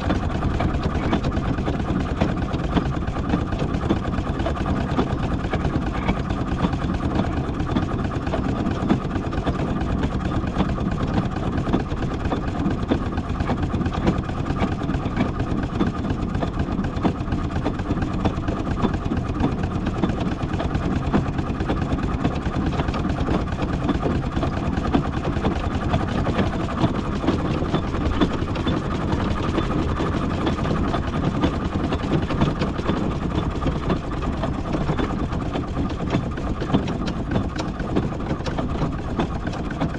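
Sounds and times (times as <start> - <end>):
steam engine clattering: 0.0 - 39.9.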